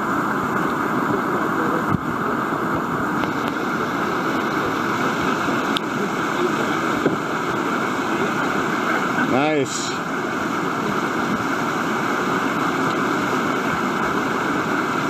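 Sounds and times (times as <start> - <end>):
whitewater rushing: 0.0 - 15.0.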